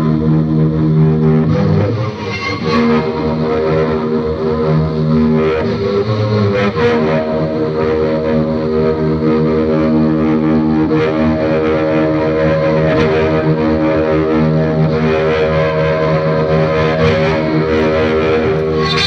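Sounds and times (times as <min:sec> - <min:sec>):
droning chord music: 0:00.0 - 0:19.0.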